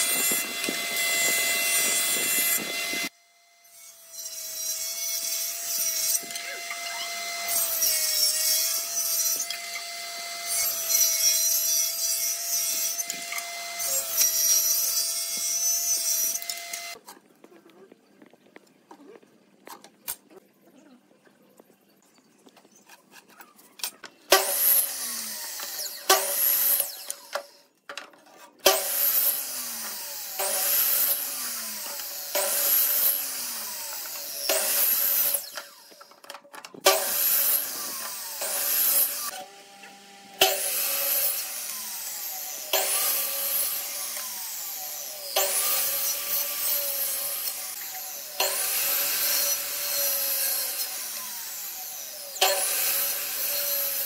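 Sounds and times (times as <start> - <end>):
miter saw cutting wood: 0.0 - 17.0, 23.2 - 27.7, 28.4 - 54.0.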